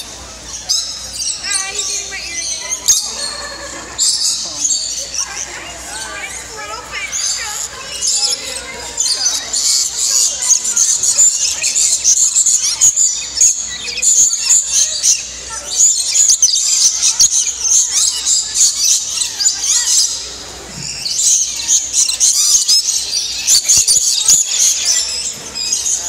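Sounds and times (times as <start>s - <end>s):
lorikeets chattering shrilly: 0.0s - 26.0s.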